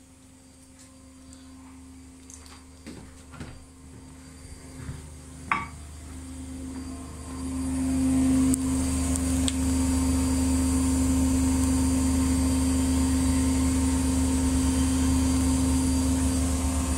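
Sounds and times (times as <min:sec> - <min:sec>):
washing machine spinning: 0:00.0 - 0:16.9.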